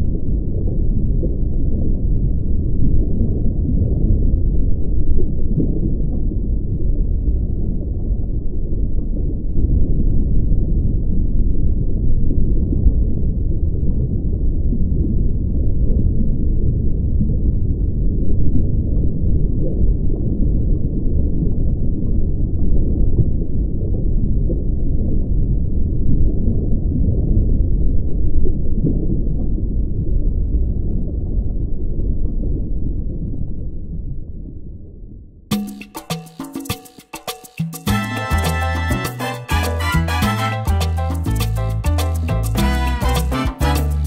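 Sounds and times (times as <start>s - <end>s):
muffled underwater rumble: 0.0s - 35.4s.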